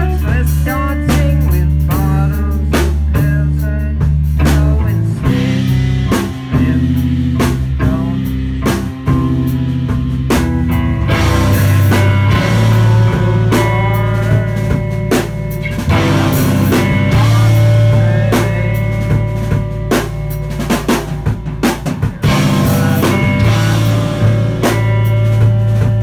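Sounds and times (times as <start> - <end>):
distorted electric guitar: 0.0 - 26.0
drum kit hitting: 0.0 - 26.0
live rock band playing: 0.0 - 26.0.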